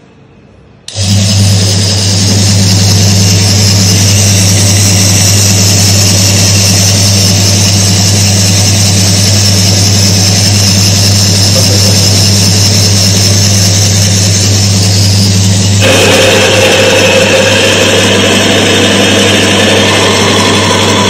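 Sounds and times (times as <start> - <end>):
electric motor humming: 0.9 - 21.0.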